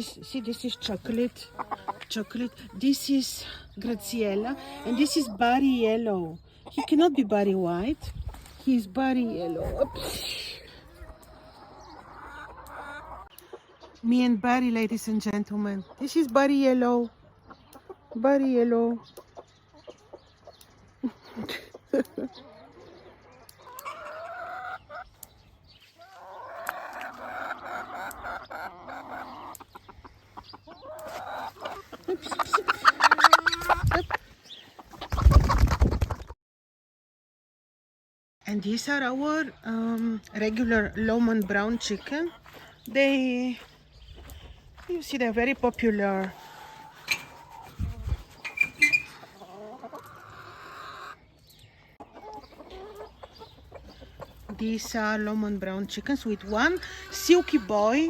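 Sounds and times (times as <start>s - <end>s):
chickens clucking: 0.0s - 36.4s, 38.9s - 58.0s.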